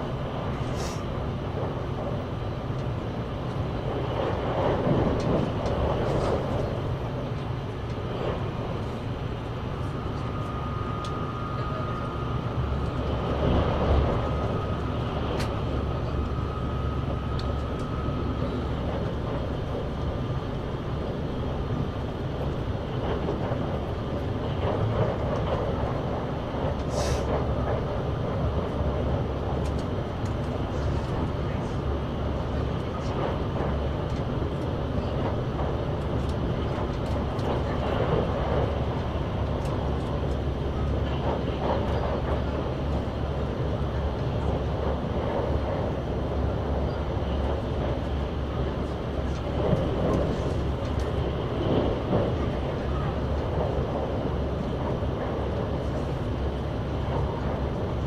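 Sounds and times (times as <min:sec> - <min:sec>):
train railcar rumble: 0:00.0 - 0:58.0.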